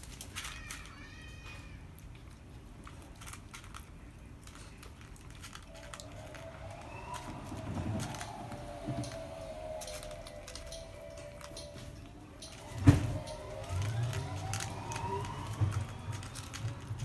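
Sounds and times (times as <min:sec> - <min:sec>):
cats crunching dry food: 0:00.0 - 0:17.0.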